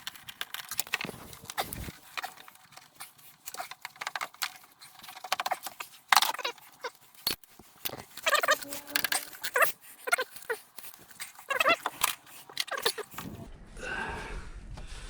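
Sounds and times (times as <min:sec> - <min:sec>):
hand tools clicking and clinking: 0:00.0 - 0:13.3.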